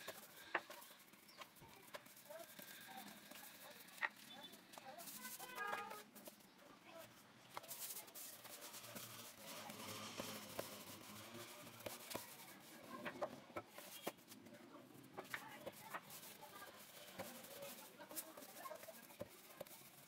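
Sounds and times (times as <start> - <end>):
hands rubbing dough: 0.0 - 20.0.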